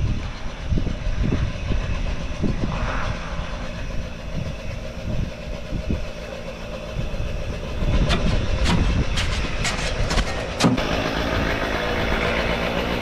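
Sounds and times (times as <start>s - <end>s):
wind buffeting microphone: 0.0s - 10.6s
low rumble: 0.0s - 13.0s.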